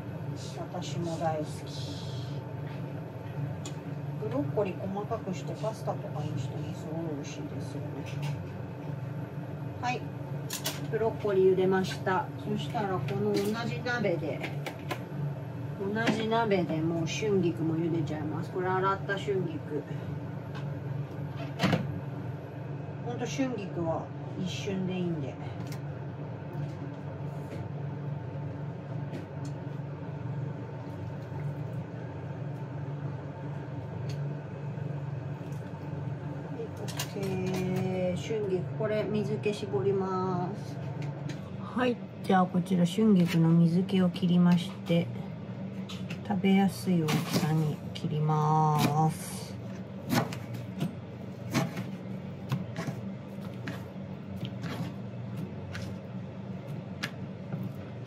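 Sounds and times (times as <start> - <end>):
range hood fan humming: 0.0 - 58.0.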